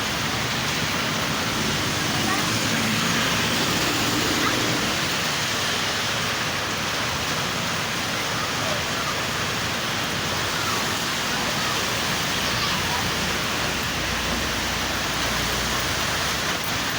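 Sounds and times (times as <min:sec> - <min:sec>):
steady rain falling: 0:00.0 - 0:16.9.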